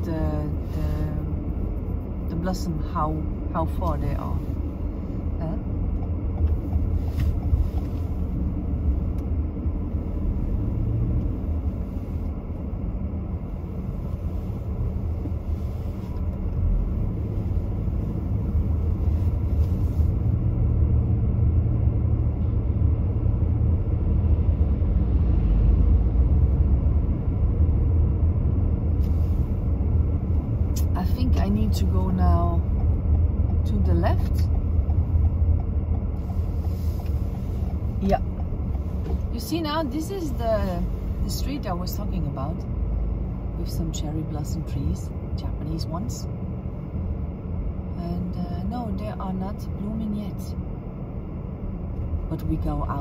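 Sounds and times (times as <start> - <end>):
car engine and tyres rumbling: 0.0 - 53.0.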